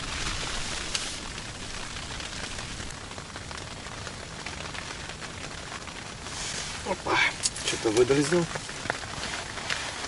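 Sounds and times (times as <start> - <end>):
rain pattering on tent fabric: 0.0 - 10.0.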